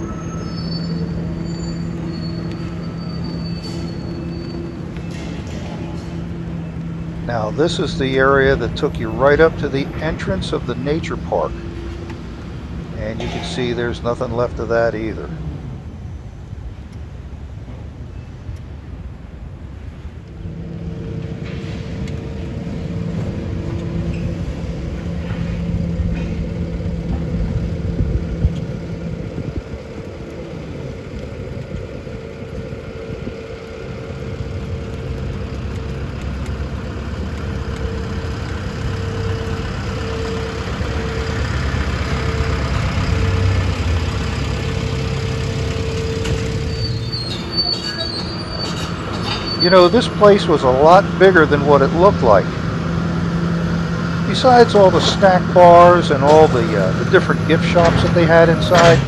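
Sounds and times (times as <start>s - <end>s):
diesel engine with whine: 0.0s - 59.0s.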